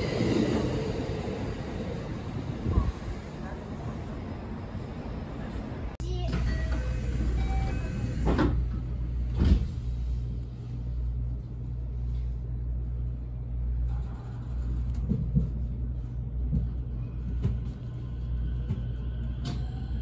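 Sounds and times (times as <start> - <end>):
train humming and rumbling: 0.0 - 20.0.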